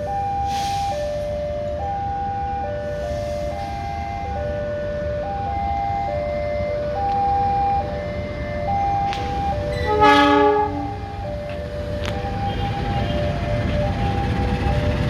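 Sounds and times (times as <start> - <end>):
diesel locomotive rumble: 0.0 - 15.0
level crossing warning alarm: 0.0 - 15.0.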